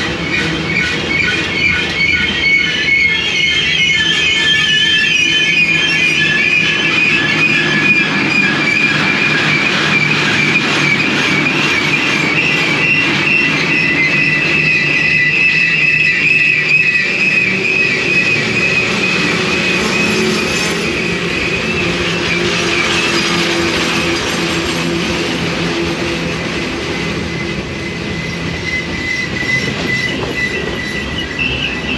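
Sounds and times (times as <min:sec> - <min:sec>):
train rumbling on rails: 0:00.0 - 0:31.9
train wheels squealing: 0:00.0 - 0:31.9.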